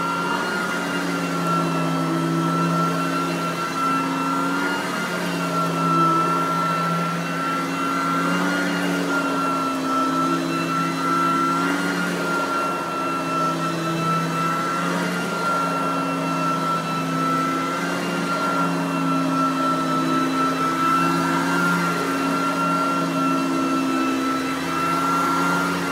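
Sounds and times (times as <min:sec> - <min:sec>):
vacuum cleaner motor whine: 0:00.0 - 0:25.9.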